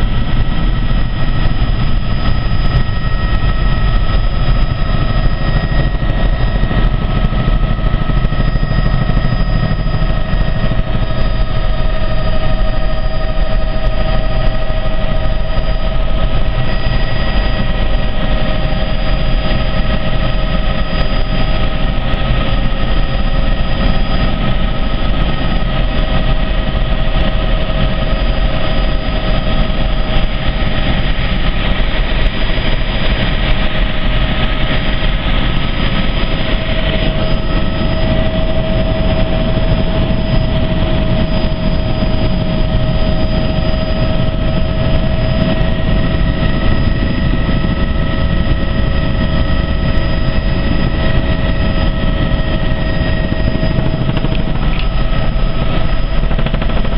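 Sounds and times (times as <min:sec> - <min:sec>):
helicopter engine and rotor noise: 0:00.0 - 0:56.9
steady whining tones: 0:00.0 - 0:56.9.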